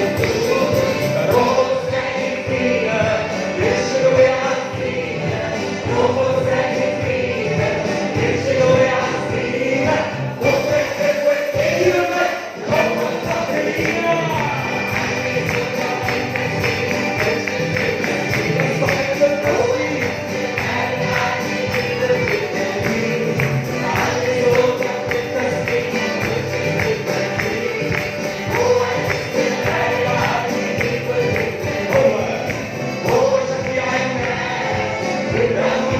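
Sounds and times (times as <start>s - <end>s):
group singing a praise song: 0.0s - 35.9s
tambourine shaking and beating: 0.0s - 35.9s.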